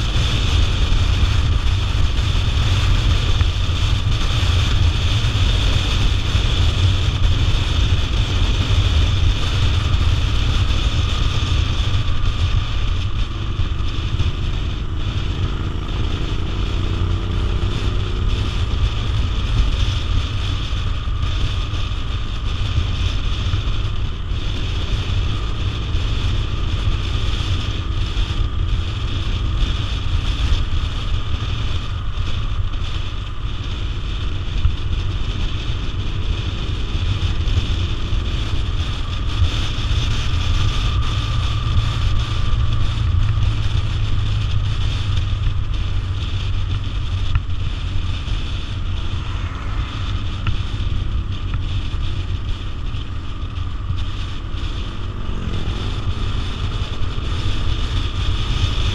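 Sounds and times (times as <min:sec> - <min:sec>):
motorcycle engine running: 0:00.0 - 0:58.9
wind rushing over microphone: 0:00.0 - 0:58.9.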